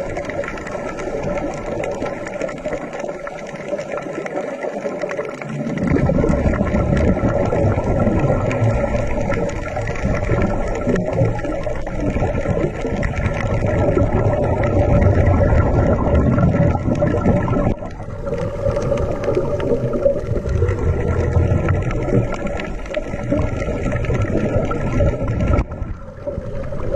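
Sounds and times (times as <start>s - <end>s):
underwater rumble and gurgle: 0.0s - 26.9s.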